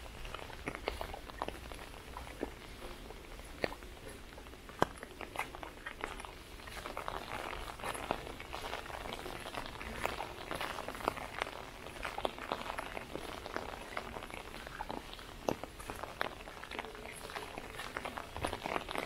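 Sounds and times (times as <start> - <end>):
rain tapping on an umbrella: 0.0 - 19.0.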